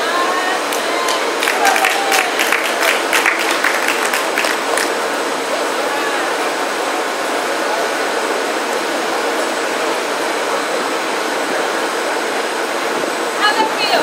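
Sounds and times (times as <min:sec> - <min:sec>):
helicopter engines running up: 0:00.0 - 0:14.0.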